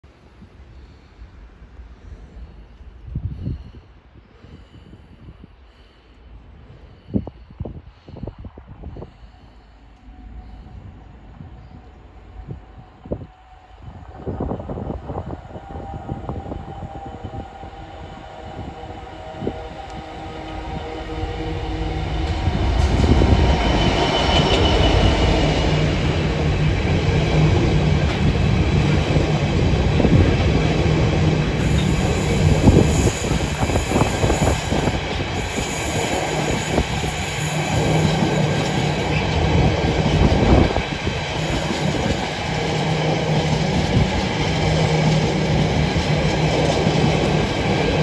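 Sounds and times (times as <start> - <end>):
diesel locomotive passing: 9.1 - 48.0.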